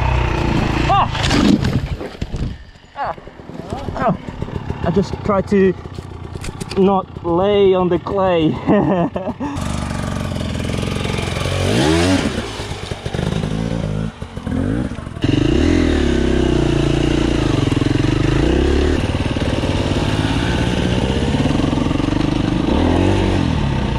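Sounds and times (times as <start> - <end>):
dirt bike engine revving: 0.0 - 1.5, 4.0 - 23.9.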